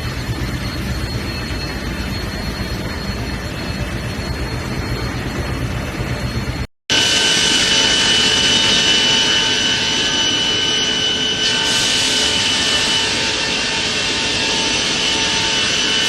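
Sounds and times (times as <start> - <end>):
high machine whine: 0.0 - 16.0
machinery running: 0.0 - 16.0.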